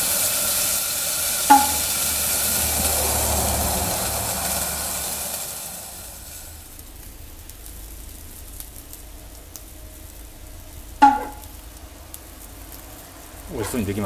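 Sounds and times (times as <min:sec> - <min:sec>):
bacon and egg sizzling on griddle: 0:00.0 - 0:14.0.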